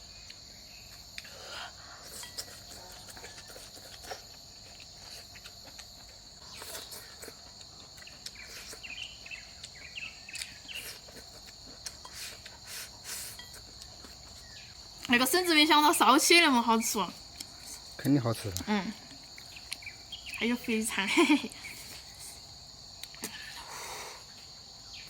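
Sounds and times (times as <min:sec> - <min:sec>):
insect chorus trilling: 0:00.0 - 0:25.0.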